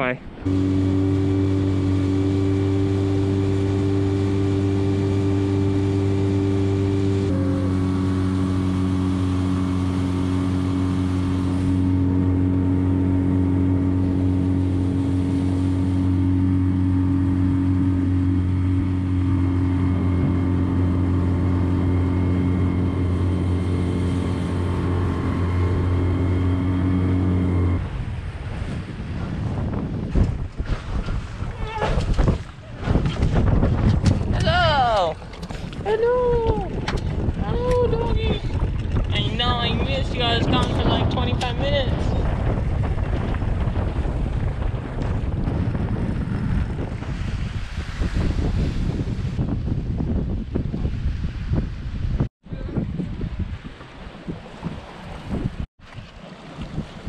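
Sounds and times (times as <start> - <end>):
outboard motor running: 0.3 - 48.1.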